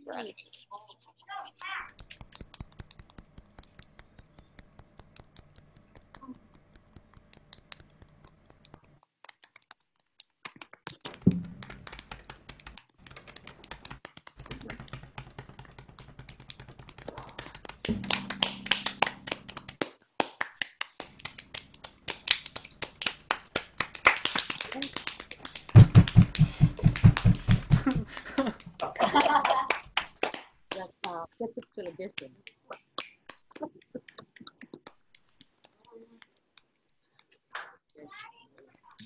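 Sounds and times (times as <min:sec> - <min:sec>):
hands tapping and patting: 0:01.7 - 0:28.8, 0:31.0 - 0:36.7.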